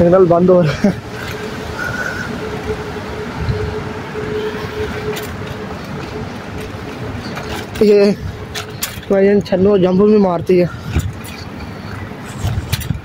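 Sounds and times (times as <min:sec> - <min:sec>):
steady hum: 0:00.0 - 0:13.0
street traffic: 0:00.0 - 0:13.0
wind rushing: 0:00.0 - 0:13.0.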